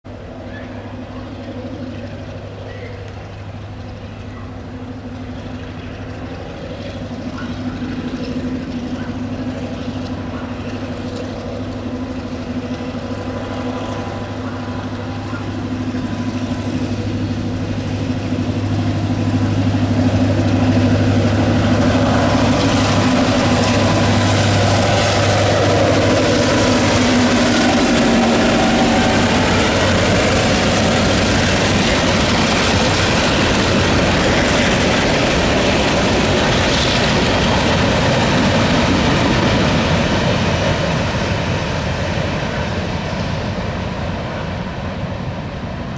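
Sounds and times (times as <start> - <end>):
diesel locomotive engine drone: 0.0 - 45.9.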